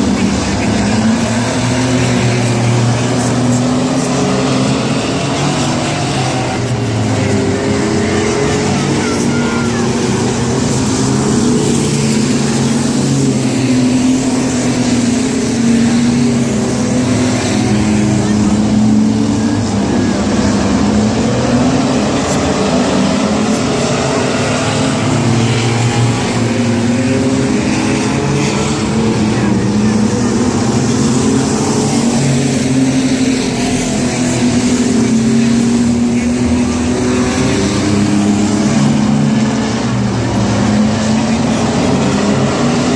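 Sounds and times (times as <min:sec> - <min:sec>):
race truck engines droning: 0:00.0 - 0:42.9.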